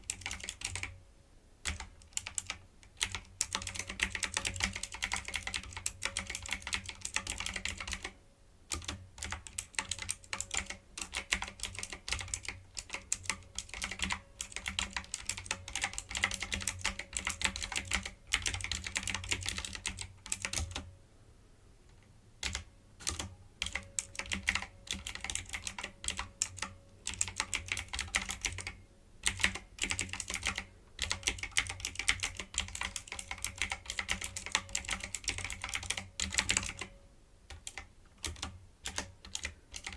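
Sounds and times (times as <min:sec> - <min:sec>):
fast keyboard typing: 0:00.0 - 0:00.9, 0:01.6 - 0:08.1, 0:08.7 - 0:20.9, 0:22.4 - 0:36.9, 0:37.5 - 0:39.9.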